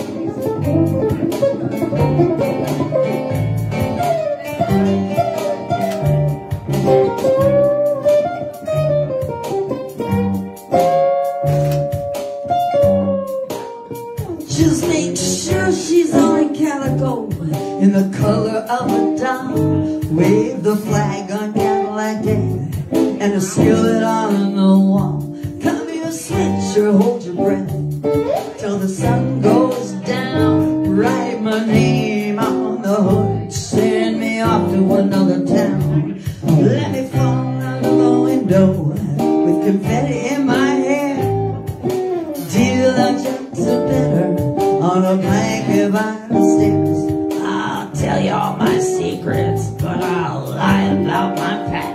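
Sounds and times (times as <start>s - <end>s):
amplified guitar: 0.0s - 51.9s
person singing: 9.9s - 51.9s.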